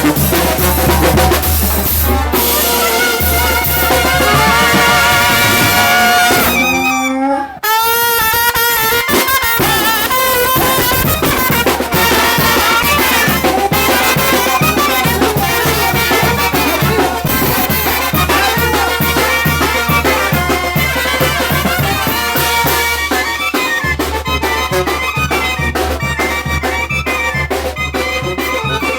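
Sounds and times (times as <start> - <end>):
brass band playing: 0.0 - 28.9
steady drum beat: 0.0 - 28.9.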